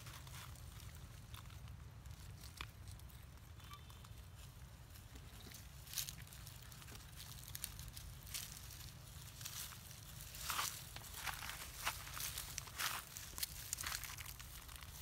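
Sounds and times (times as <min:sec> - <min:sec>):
dry leaves crackling and rustling: 0:00.0 - 0:15.0
steady low rumble: 0:00.0 - 0:15.0.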